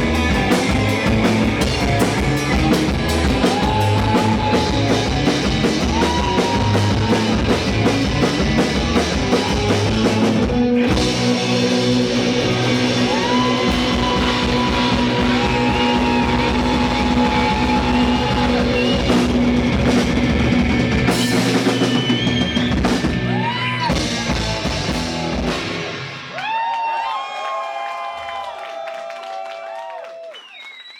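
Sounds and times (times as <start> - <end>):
bending guitar lead: 0.0 - 26.3
live rock band: 0.0 - 26.7.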